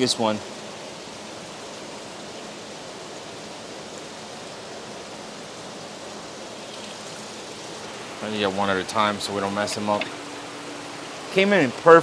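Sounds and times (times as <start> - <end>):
aquarium water running: 0.0 - 12.0.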